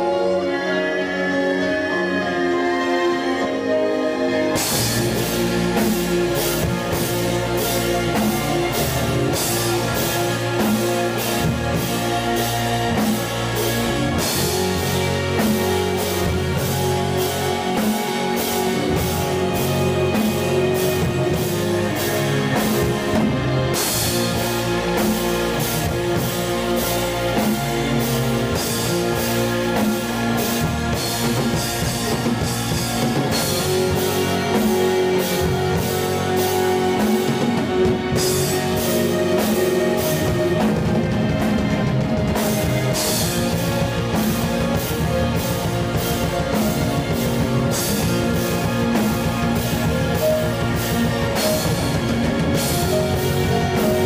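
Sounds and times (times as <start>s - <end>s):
electric guitar: 0.0s - 54.0s
drum kit with ringing cymbals: 3.2s - 54.0s.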